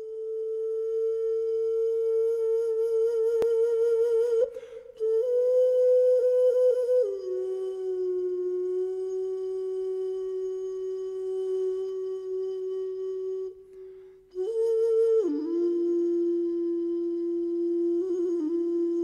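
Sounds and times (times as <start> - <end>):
slow solo flute: 0.0 - 19.0.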